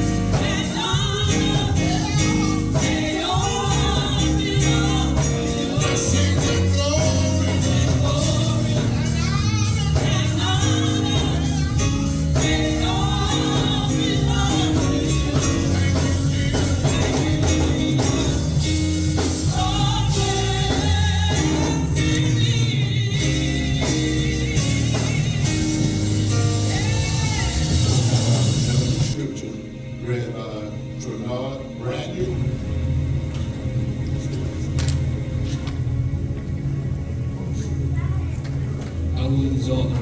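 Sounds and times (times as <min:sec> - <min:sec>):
gospel song with choir and band: 0:00.0 - 0:35.9, 0:39.0 - 0:40.0.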